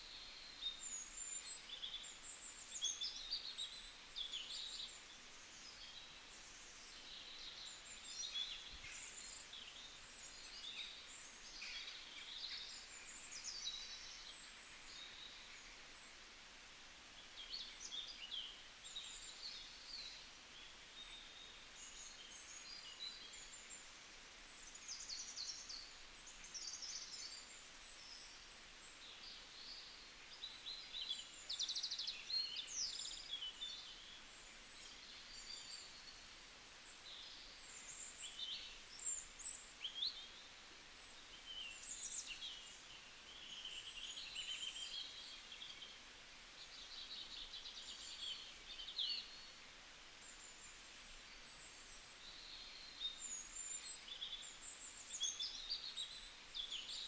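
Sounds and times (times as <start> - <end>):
faint background hiss: 0.0 - 57.0
small birds chirping: 0.0 - 57.0.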